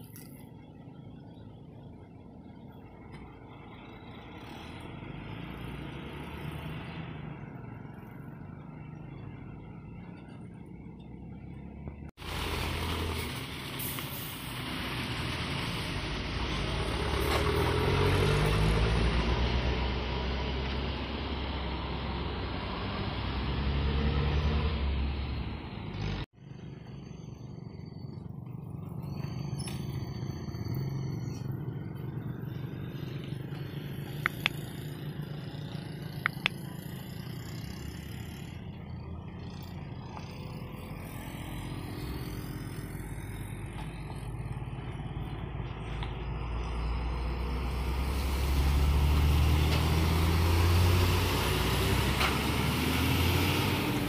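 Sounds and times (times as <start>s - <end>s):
bus approaching: 0.0s - 54.0s
motorcycles on rough road: 0.0s - 54.0s
diesel coach engine passing: 0.7s - 54.0s.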